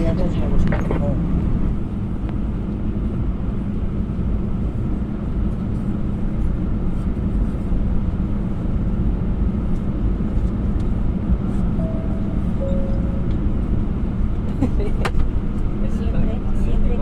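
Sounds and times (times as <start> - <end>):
aircraft cabin engine rumble: 0.0 - 17.0
cabin air hum: 0.0 - 17.0.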